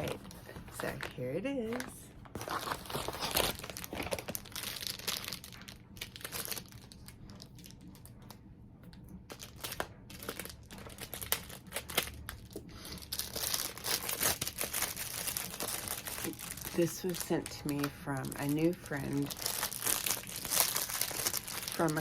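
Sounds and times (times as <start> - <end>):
packaging crinkling and rustling: 0.0 - 22.0
packaging tearing: 1.7 - 7.8, 9.3 - 22.0.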